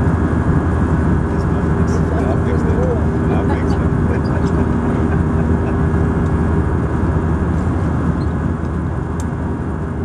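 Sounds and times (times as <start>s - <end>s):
airplane cabin roar: 0.0s - 10.0s
low engine hum: 0.0s - 10.0s.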